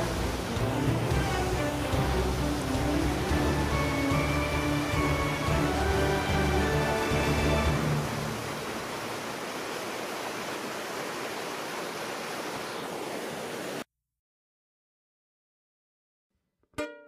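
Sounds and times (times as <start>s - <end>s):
floodwater rushing: 0.0s - 13.8s.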